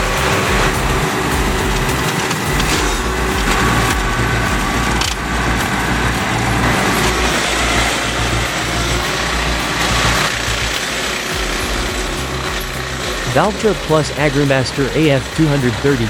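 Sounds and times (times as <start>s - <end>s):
large machine engine running: 0.0s - 16.0s.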